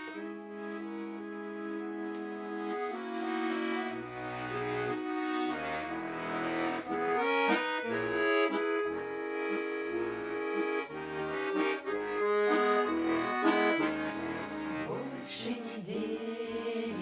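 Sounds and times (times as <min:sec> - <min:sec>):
accordion folk melody: 0:00.0 - 0:17.0.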